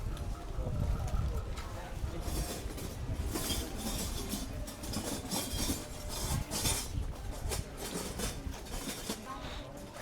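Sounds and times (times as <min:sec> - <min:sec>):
murmur of many voices: 0:00.0 - 0:10.0.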